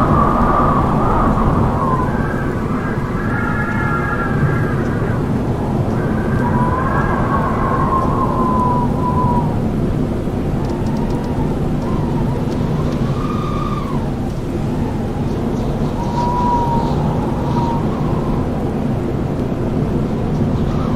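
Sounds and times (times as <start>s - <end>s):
strong wind howling: 0.0s - 20.9s.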